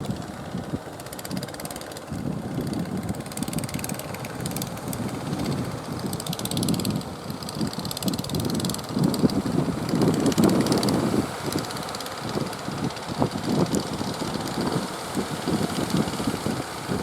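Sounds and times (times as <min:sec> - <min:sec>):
boat engine running: 0:00.0 - 0:17.0
wind buffeting microphone: 0:00.0 - 0:17.0.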